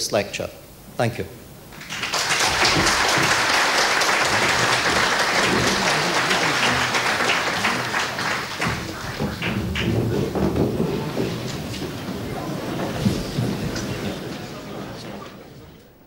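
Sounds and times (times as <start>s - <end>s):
large audience applauding: 1.7s - 15.5s.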